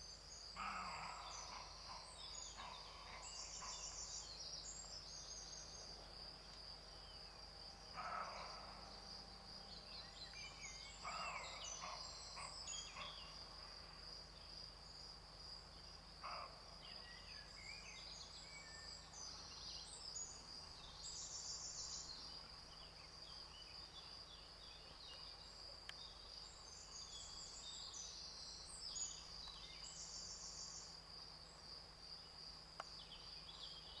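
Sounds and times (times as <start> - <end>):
songbirds calling: 0.0 - 34.0.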